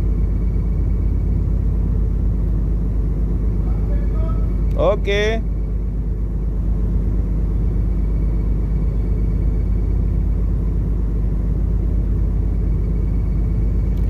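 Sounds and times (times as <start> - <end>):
ship engine low rumble: 0.0 - 14.0.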